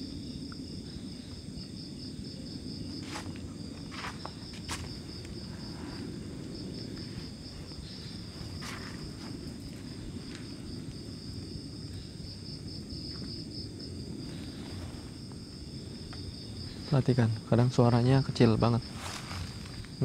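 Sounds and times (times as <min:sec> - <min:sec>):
low background rumble: 0:00.0 - 0:20.0
night insects trilling: 0:00.0 - 0:20.0.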